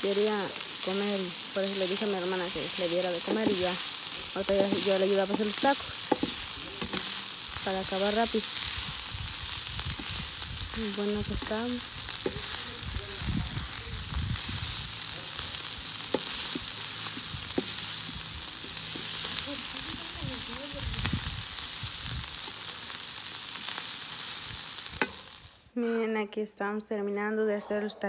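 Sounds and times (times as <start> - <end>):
food sizzling in hot oil: 0.0 - 25.7.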